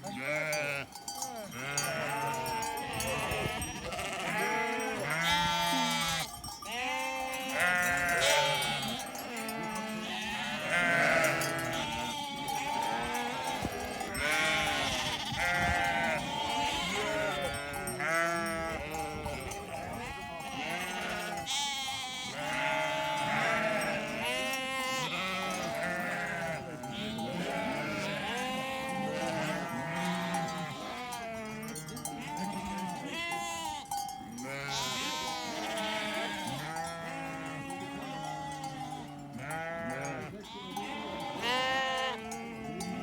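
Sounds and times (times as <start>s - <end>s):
sheep bleating: 0.0s - 43.0s
bells ringing: 0.4s - 43.0s.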